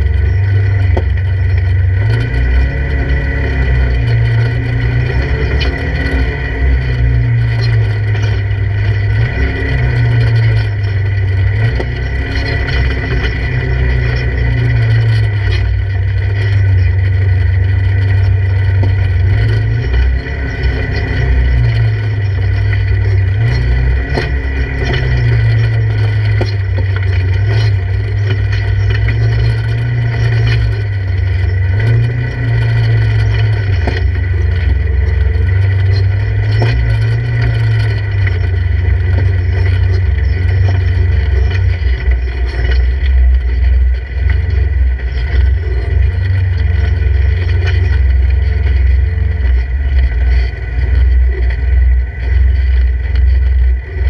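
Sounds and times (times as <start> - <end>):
steady high whine: 0.0 - 54.0
vehicle engine drone: 0.0 - 54.0.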